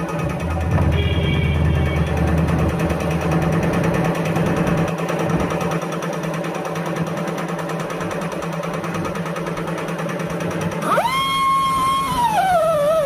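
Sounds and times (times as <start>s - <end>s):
small machine rattling: 0.0s - 13.0s.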